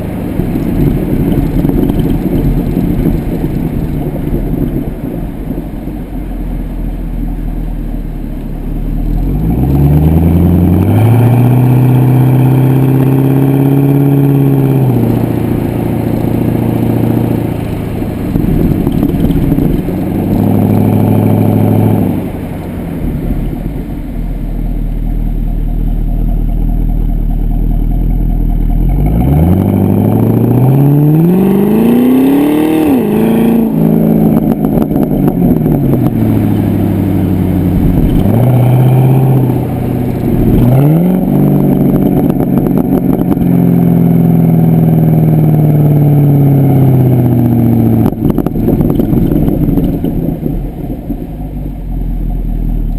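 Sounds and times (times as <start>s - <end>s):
car exhaust rumbling and revving: 0.0s - 52.9s.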